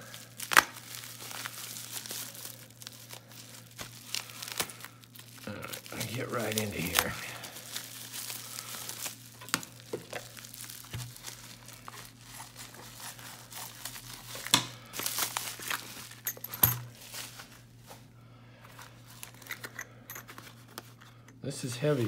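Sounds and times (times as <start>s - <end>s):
bubble wrap crinkling: 0.0s - 19.6s.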